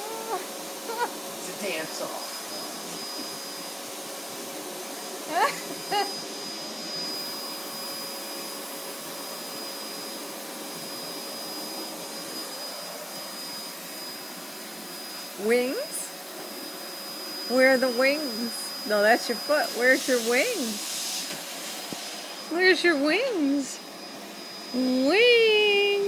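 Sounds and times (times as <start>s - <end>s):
vacuum cleaner whirring: 0.0s - 26.0s.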